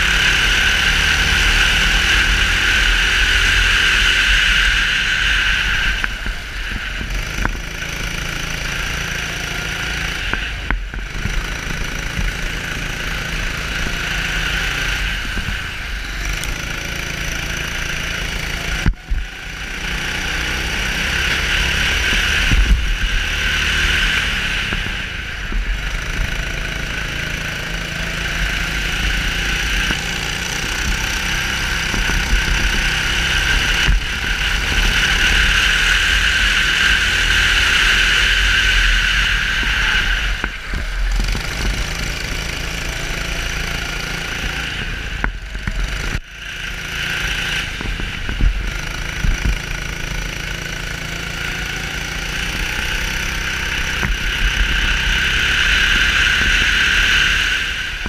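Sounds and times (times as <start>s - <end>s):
kart engine at racing speed: 0.0s - 58.0s.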